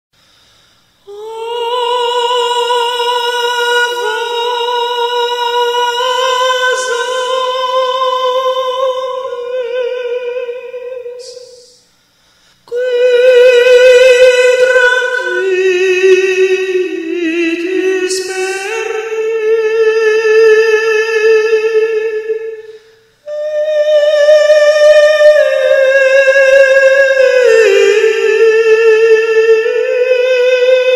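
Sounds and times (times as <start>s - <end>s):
woman singing long notes: 1.0s - 11.8s, 12.7s - 30.9s.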